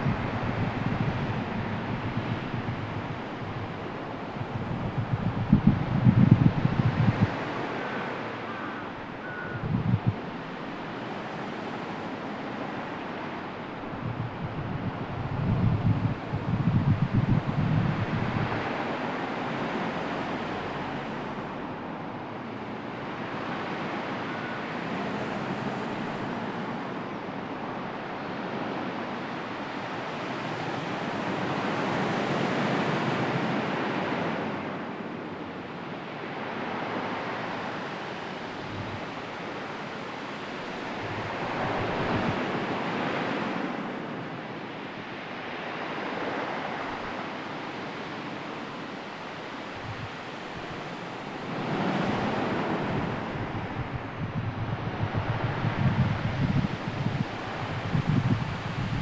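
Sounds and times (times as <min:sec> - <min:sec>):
waves rolling in and washing back: 0:00.0 - 0:59.0.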